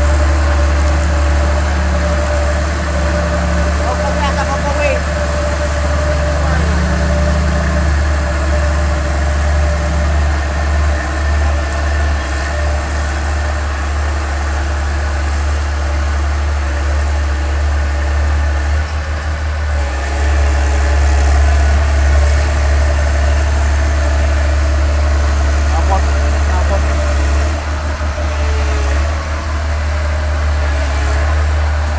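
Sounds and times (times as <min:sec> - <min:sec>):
excavator diesel engine idling: 0:00.0 - 0:31.9.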